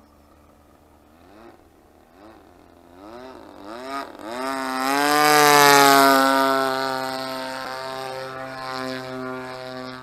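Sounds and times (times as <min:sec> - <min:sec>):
model plane engine in flight: 0:00.0 - 0:10.0.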